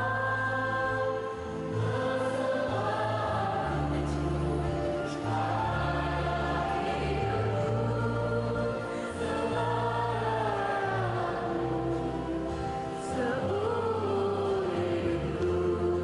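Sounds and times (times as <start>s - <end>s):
choir-like singing: 0.0s - 16.0s.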